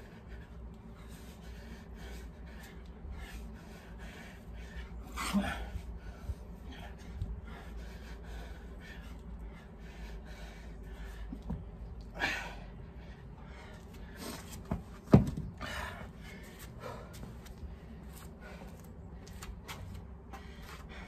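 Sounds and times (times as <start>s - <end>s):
man gasping breaths: 0.0s - 14.6s, 15.5s - 19.4s.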